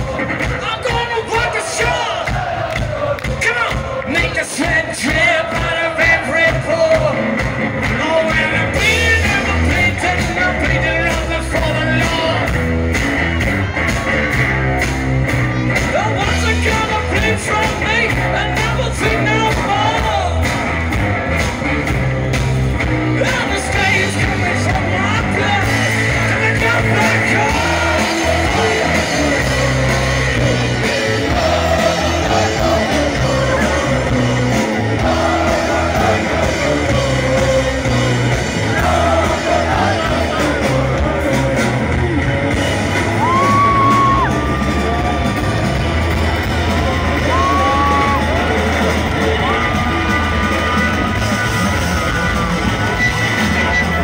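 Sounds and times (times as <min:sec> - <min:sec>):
loud rock band playing: 0:00.0 - 0:54.0.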